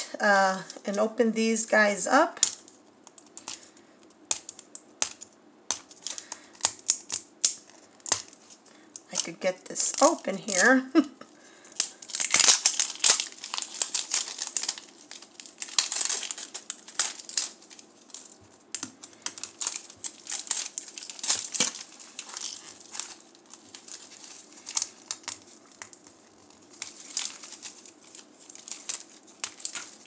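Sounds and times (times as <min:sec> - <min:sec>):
plastic wrapping crinkling: 0:00.0 - 0:30.0.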